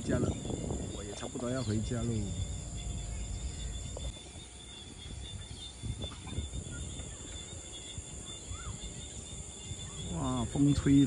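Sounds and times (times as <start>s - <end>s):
high-pitched insect trill: 0.0s - 11.0s
wind rumble on microphone: 0.0s - 11.0s.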